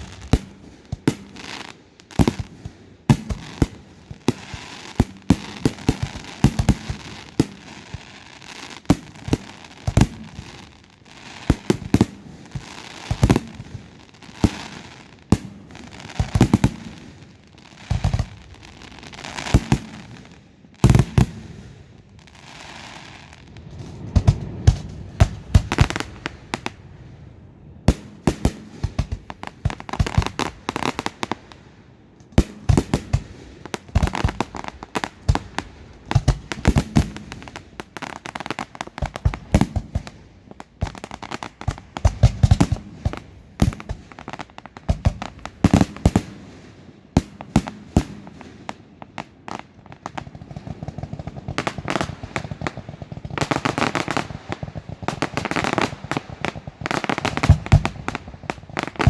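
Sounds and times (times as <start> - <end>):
fireworks bursting in bangs: 0.0 - 59.0.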